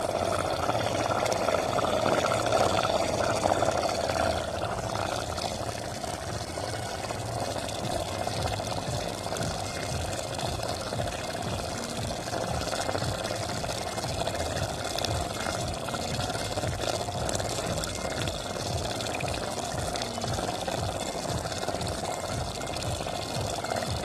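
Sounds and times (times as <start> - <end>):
curry bubbling in a pot: 0.0 - 24.0.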